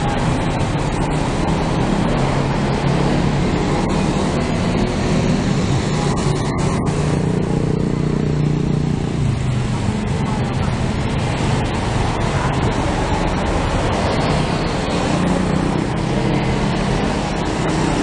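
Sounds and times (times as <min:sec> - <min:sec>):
cars and motorcycles passing: 0:00.0 - 0:18.0.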